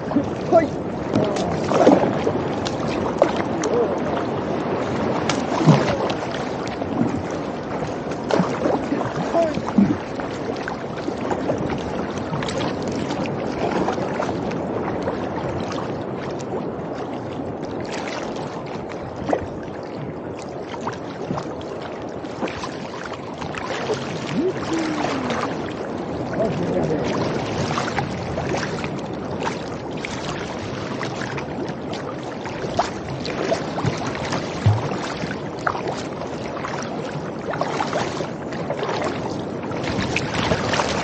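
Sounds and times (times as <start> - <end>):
paddle strokes splashing: 0.0 - 41.0
water slapping against kayak hull: 0.0 - 41.0.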